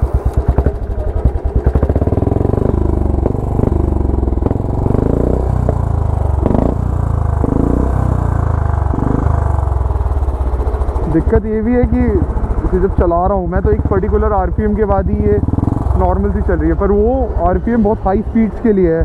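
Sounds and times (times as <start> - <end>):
motorcycle engine idling unevenly: 0.0 - 19.0.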